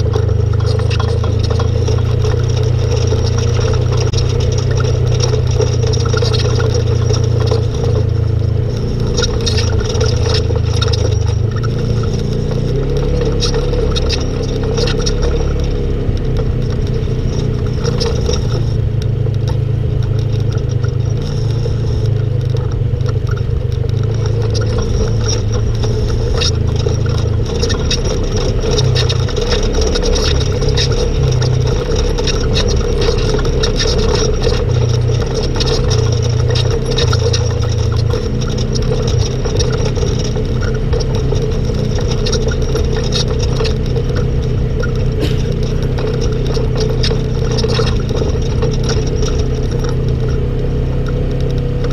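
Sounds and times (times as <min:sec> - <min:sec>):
off-road vehicle engine running: 0:00.0 - 0:51.9
rattling and clatter: 0:00.0 - 0:51.9.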